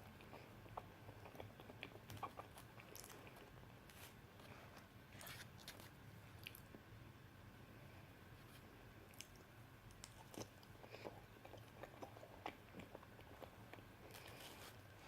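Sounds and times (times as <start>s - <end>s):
chewing sticky food: 0.0s - 6.8s, 8.6s - 15.0s.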